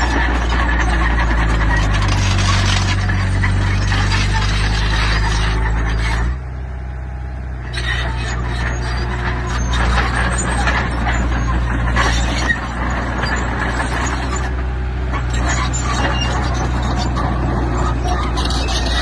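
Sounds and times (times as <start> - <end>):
metallic clattering and scraping: 0.0 - 6.4, 7.7 - 19.0
heavy diesel machinery running: 0.0 - 19.0.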